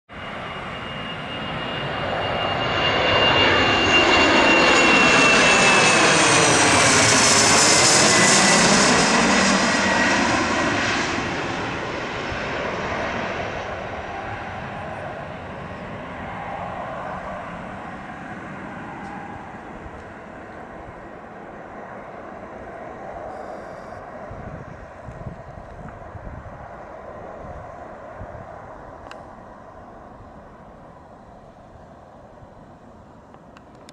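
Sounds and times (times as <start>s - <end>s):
jet passing overhead: 0.1s - 33.9s
distant jet rumble: 0.2s - 33.9s.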